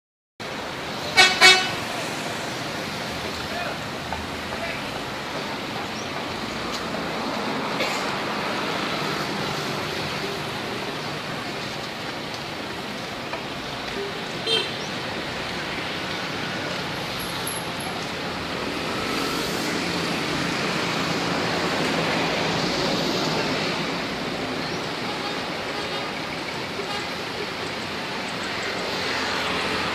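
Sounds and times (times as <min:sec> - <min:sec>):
road traffic: 0:00.4 - 0:29.9.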